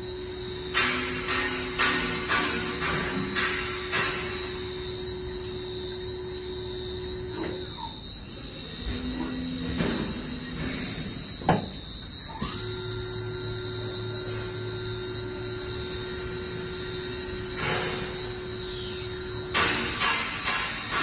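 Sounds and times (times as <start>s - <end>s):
lathe running with high whine: 0.0s - 21.0s
motor hum: 0.0s - 21.0s.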